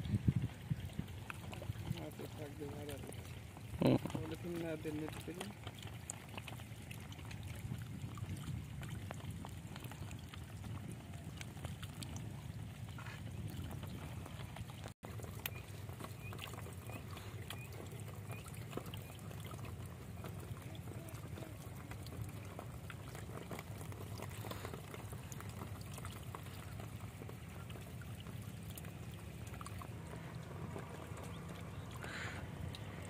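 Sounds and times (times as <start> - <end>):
small wet ticks and patters: 0.0 - 33.0
water pouring and trickling: 0.0 - 33.0.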